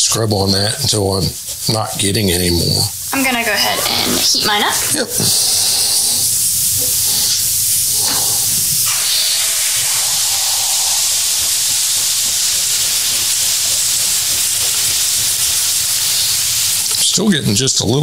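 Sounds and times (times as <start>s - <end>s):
iron steam hissing: 0.0s - 18.0s.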